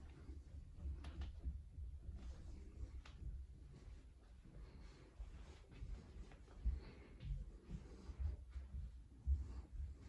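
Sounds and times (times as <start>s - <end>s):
faint footsteps: 0.0s - 10.0s.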